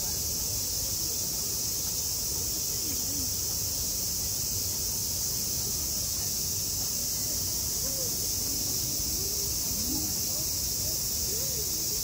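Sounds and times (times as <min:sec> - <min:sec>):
cicadas chorus: 0:00.0 - 0:12.0
faint distant voices: 0:00.0 - 0:12.0.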